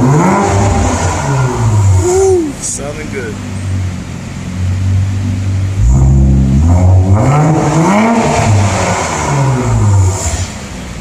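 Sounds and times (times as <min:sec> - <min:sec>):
car exhaust idling and revving: 0:00.0 - 0:11.0.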